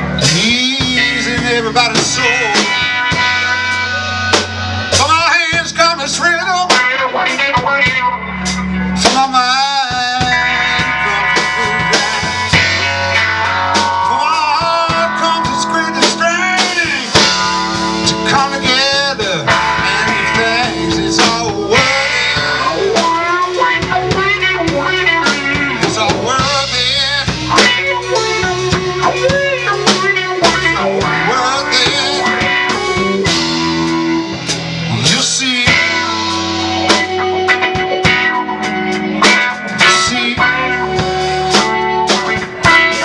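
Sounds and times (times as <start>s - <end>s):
drum kit: 0.0s - 43.0s
electric bass: 0.0s - 43.0s
electric guitar lead: 0.0s - 43.0s.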